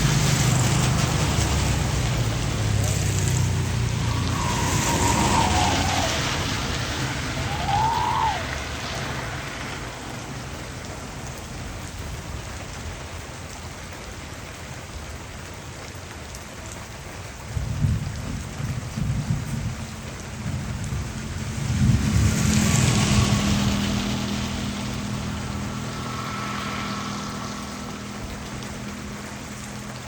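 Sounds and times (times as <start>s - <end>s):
thunder rumbling: 0.0s - 12.6s, 17.5s - 30.0s
heavy rain falling: 0.0s - 30.0s.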